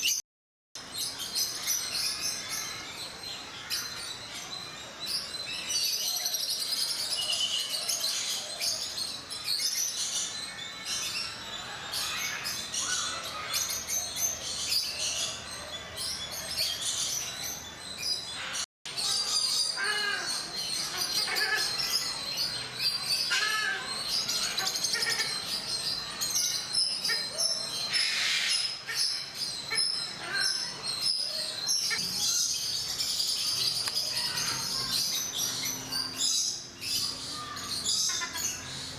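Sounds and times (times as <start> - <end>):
birds chirping in chorus: 0.8 - 38.9.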